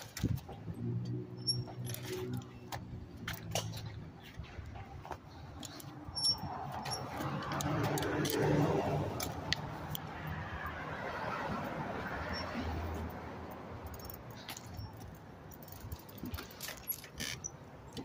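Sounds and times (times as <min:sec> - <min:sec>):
bicycle rattling and clicking: 0:00.0 - 0:10.4, 0:11.6 - 0:18.0
traffic noise: 0:00.0 - 0:18.0.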